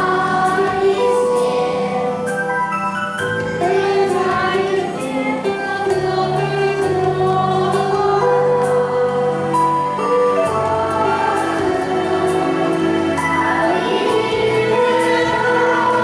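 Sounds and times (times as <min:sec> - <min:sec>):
choir singing held notes: 0:00.0 - 0:16.0.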